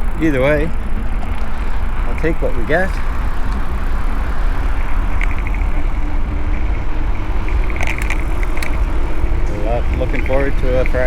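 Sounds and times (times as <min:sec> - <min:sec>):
rapid ticking: 0:00.0 - 0:11.0
wind buffeting microphone: 0:00.0 - 0:11.0.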